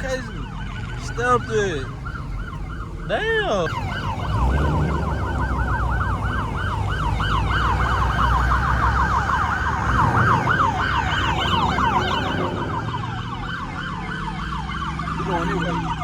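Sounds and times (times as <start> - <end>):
police siren yelp: 0.0 - 16.0
vehicle engine rumble: 0.0 - 16.0.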